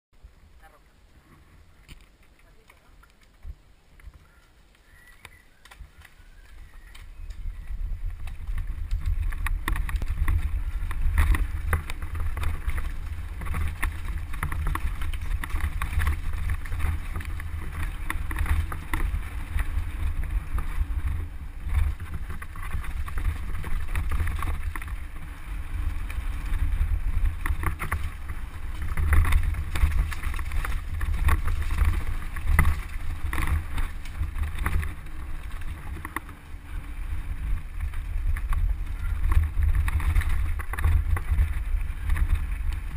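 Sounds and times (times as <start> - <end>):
wind rumbling on microphone: 0.2 - 42.9
bike rattling over bumps: 1.1 - 42.9
tyres crunching over stones: 1.4 - 42.9.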